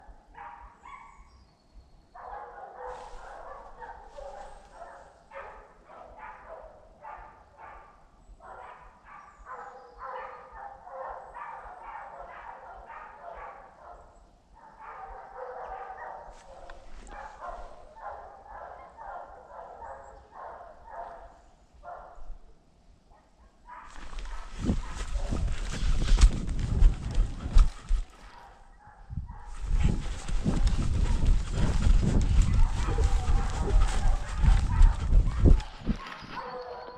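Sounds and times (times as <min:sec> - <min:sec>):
hunting dogs barking: 0:00.0 - 0:01.3, 0:02.2 - 0:22.3, 0:23.1 - 0:36.9.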